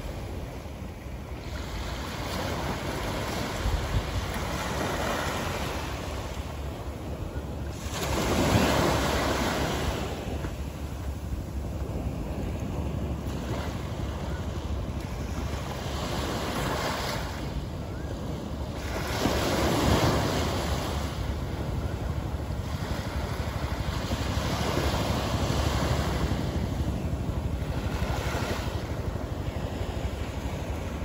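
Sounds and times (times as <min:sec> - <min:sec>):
waves lapping on sandy shore: 0:00.0 - 0:31.0.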